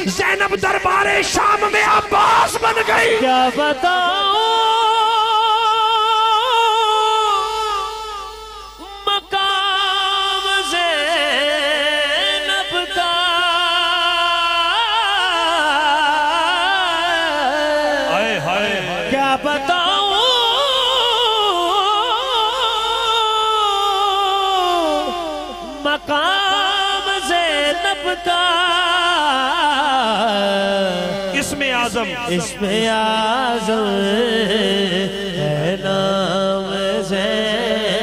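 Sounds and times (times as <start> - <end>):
wordless singing with vibrato: 0.0 - 38.0.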